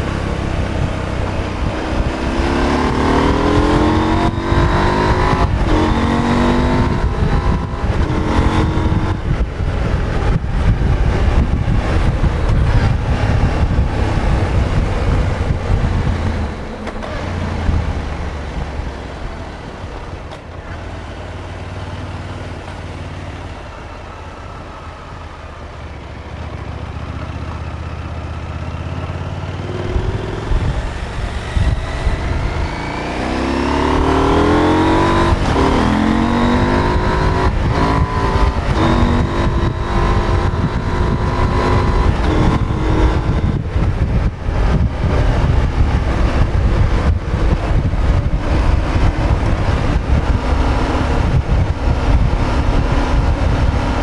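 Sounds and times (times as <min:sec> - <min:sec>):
wind rush: 0:00.0 - 0:20.8, 0:29.7 - 0:54.0
motorcycle engine revving: 0:00.0 - 0:54.0.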